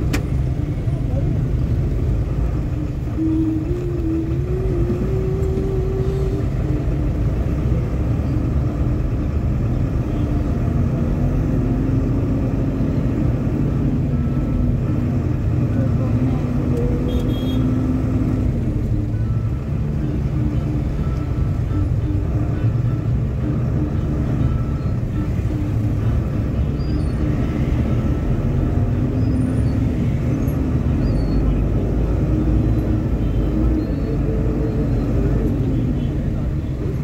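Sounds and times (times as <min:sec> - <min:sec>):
engine drone: 0:00.0 - 0:37.0
road traffic rumble: 0:00.0 - 0:37.0
wind: 0:00.0 - 0:37.0.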